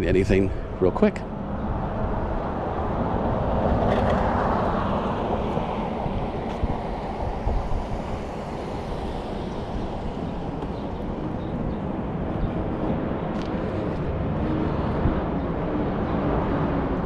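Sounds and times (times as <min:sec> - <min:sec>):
steady low rumble: 0:00.0 - 0:17.0
vehicle passing by: 0:01.3 - 0:17.0.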